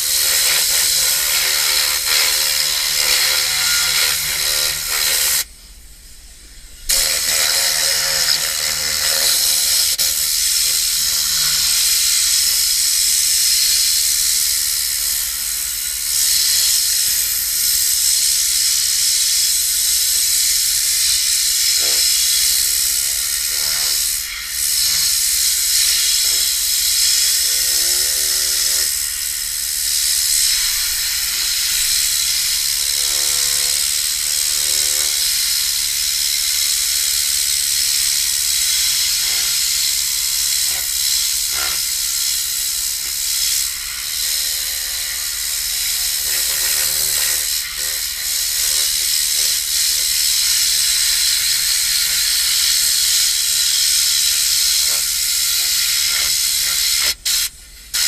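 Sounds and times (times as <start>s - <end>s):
compressed air hissing: 0.0s - 58.0s.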